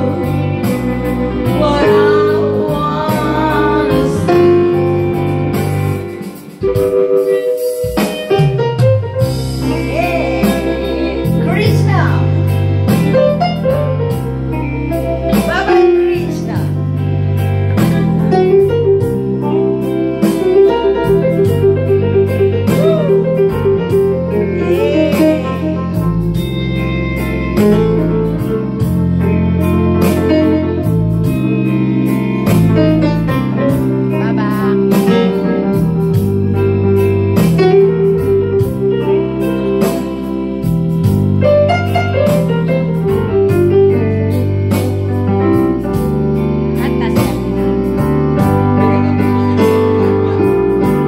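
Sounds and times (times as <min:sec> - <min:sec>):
digital piano chords and bass line: 0:00.0 - 0:51.0.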